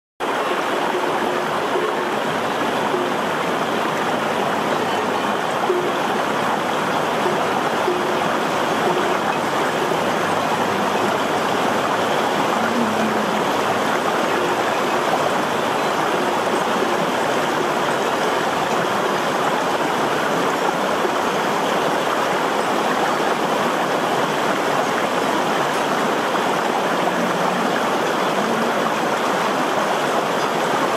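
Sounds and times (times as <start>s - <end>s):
stream rushing over stones: 0.2s - 30.9s.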